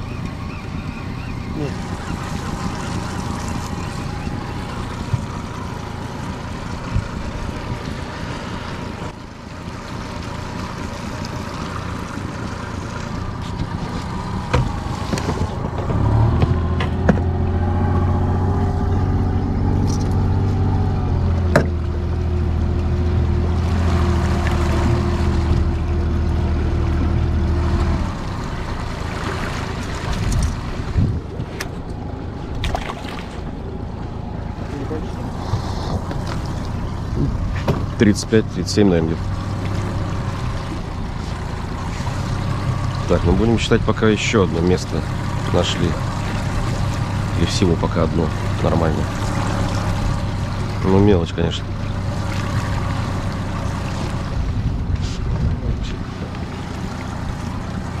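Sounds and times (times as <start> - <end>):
outboard motor running: 0.0 - 58.0
water wash: 0.0 - 58.0
wind: 0.0 - 58.0.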